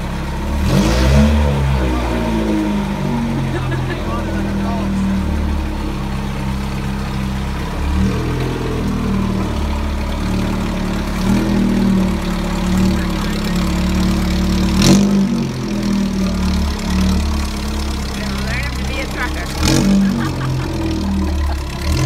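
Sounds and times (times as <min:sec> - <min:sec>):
model truck engine revving: 0:00.0 - 0:22.0.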